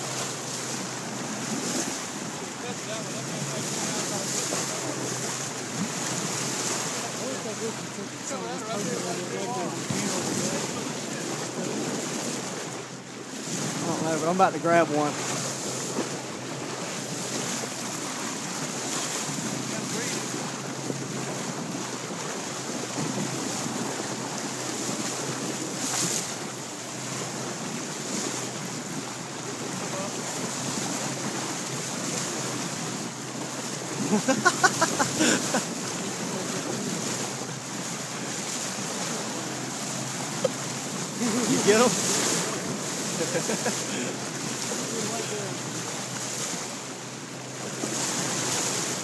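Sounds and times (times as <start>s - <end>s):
water rushing along boat: 0.0s - 49.0s.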